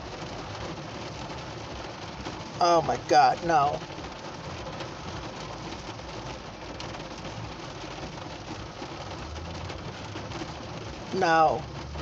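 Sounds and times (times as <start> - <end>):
rain pattering on car roof: 0.0 - 12.0.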